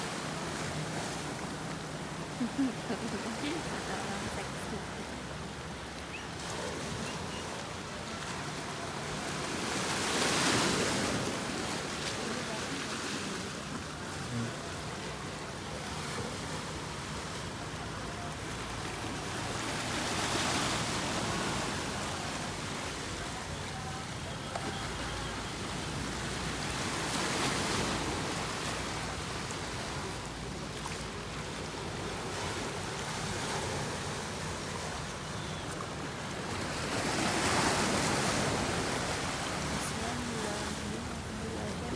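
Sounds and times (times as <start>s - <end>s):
waves washing onto beach: 0.0s - 41.9s.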